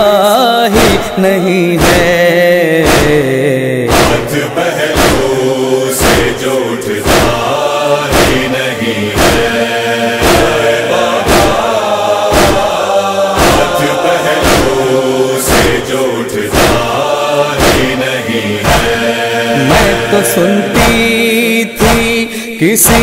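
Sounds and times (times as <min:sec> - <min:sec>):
chorus chanting: 0:00.0 - 0:23.0
sharp even chest beats: 0:00.8 - 0:01.1, 0:01.8 - 0:02.2, 0:02.8 - 0:19.0, 0:19.6 - 0:21.1.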